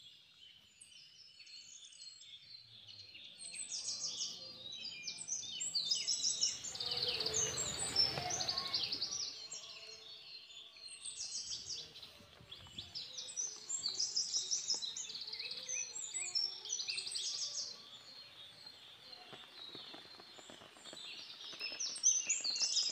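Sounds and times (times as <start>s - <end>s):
songbirds chirping and singing: 0.0s - 22.9s.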